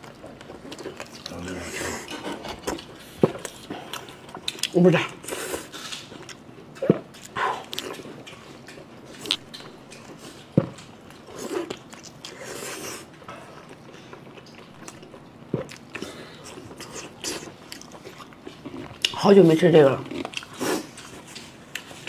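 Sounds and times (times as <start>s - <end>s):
wet chewing mouth sounds: 0.0s - 19.2s, 20.0s - 22.0s.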